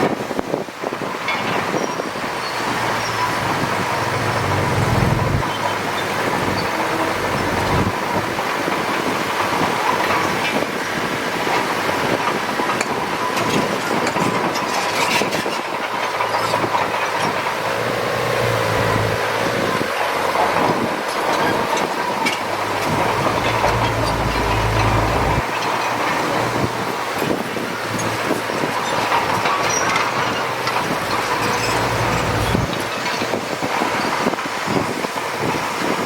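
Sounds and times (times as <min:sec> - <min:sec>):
heavy machinery clattering: 0:00.0 - 0:36.0
diesel engine rumble: 0:00.1 - 0:13.0, 0:15.7 - 0:36.0.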